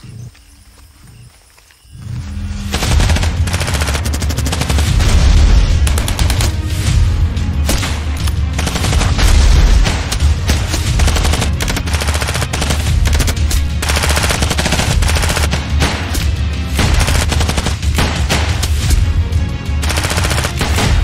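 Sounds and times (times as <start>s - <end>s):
film score with low pulse: 0.0s - 21.0s.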